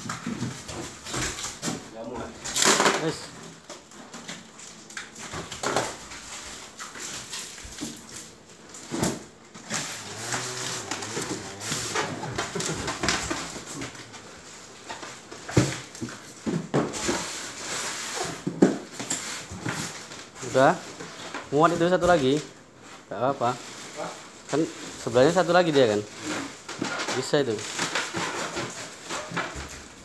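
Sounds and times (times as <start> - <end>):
knocks and scraping of packing: 0.0 - 7.2, 8.7 - 30.0.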